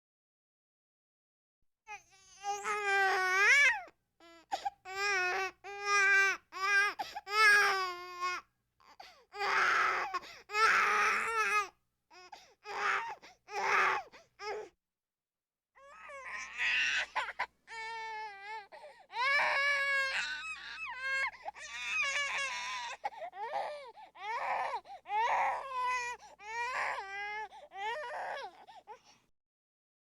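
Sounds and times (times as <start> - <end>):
baby crying: 1.9 - 8.4, 9.4 - 14.7, 15.8 - 29.0.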